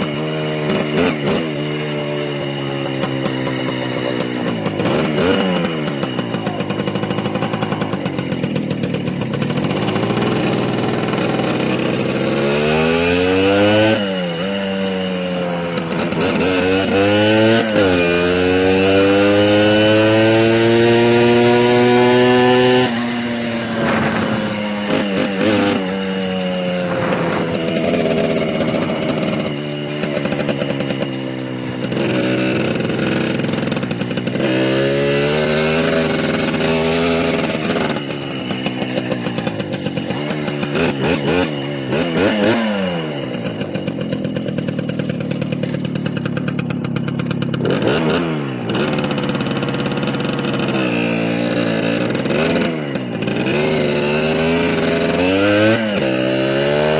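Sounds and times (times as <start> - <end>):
small motorcycle engines revving: 0.0 - 56.9.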